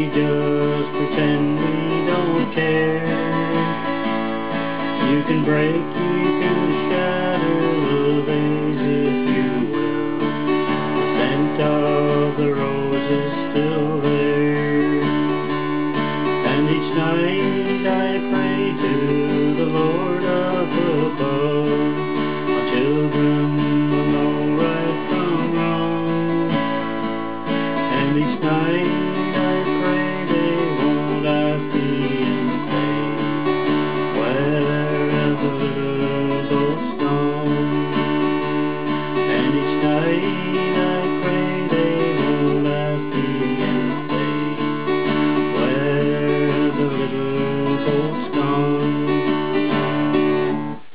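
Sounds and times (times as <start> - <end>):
sliding melody line: 0.0 - 50.8
strummed acoustic guitar: 0.0 - 50.9.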